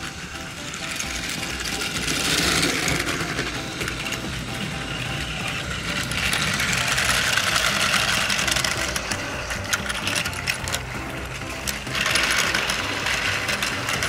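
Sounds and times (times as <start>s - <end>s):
toy train motor whirring: 0.0s - 14.0s
wheels clattering on plastic track: 0.0s - 14.0s.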